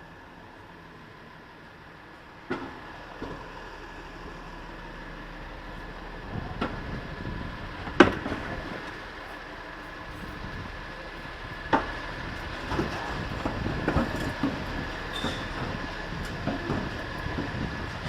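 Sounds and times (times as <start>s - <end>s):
city street traffic hum: 0.0s - 18.0s.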